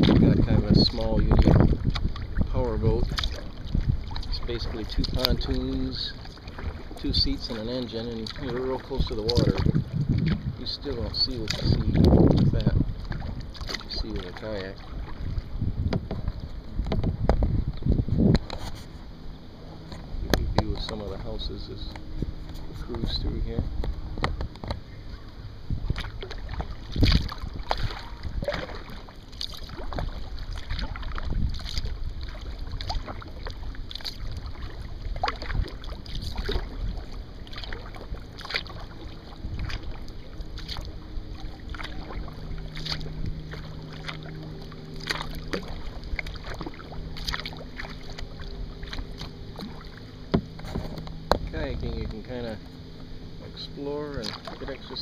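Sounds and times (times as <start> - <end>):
paddle splashing in water: 0.0 - 55.0.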